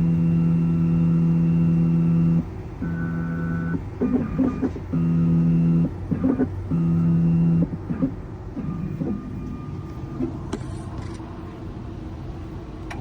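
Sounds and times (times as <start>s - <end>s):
key-cutting machine motor whine: 0.0s - 11.2s.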